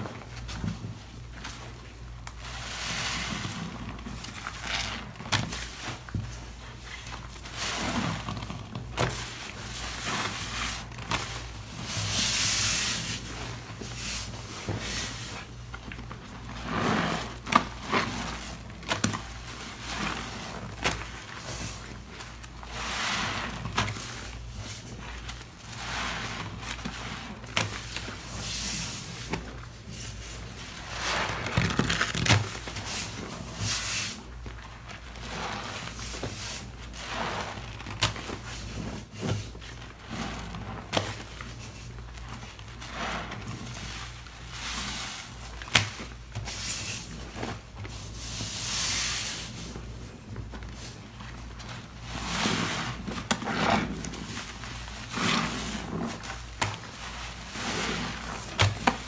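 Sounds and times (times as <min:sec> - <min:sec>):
crackling suds: 0:00.0 - 0:59.0
wet squelches of sponges: 0:00.0 - 0:59.0.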